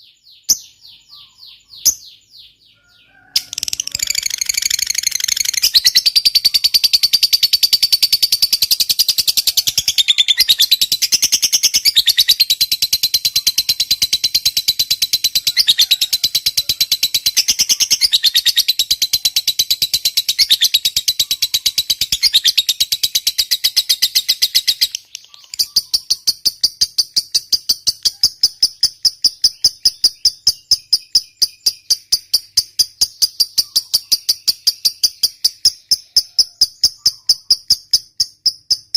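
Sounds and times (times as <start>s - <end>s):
lovebird chattering trill: 0.0s - 2.6s, 3.4s - 38.9s
pulsed bird chirping: 0.0s - 38.9s.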